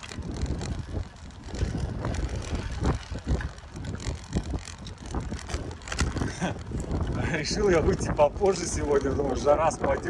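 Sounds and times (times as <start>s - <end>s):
bicycle frame rattling: 0.0s - 10.0s
wind on microphone: 0.0s - 10.0s.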